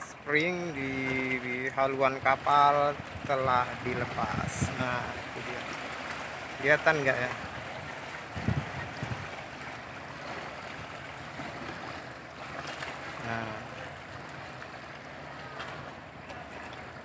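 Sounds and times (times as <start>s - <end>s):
water washing against pier: 0.0s - 17.0s
wind: 0.0s - 17.0s.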